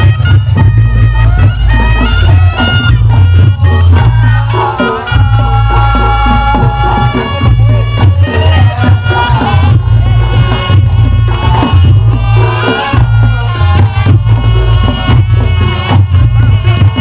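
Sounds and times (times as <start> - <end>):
deep low pulse: 0.0 - 17.0
reed trumpet melody: 0.0 - 17.0
steady drum beats: 0.0 - 17.0.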